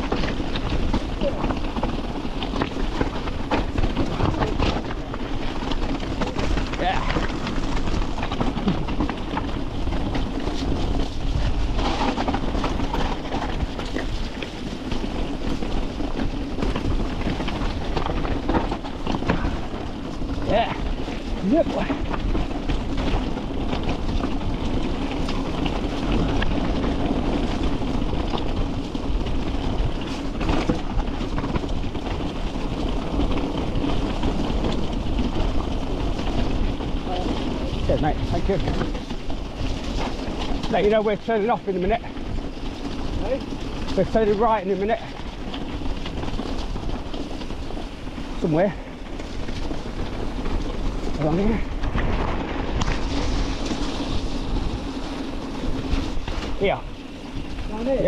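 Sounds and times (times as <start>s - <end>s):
mountain bike rattling over rocks: 0.0s - 58.0s
tyres rumbling on trail: 0.0s - 58.0s
wind on microphone: 0.0s - 58.0s.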